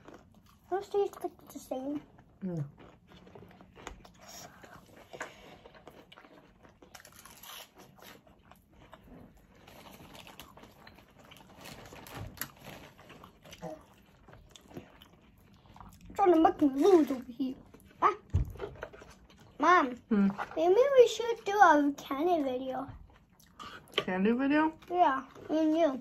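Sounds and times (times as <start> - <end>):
chewing and crunching fried food: 0.0 - 26.0.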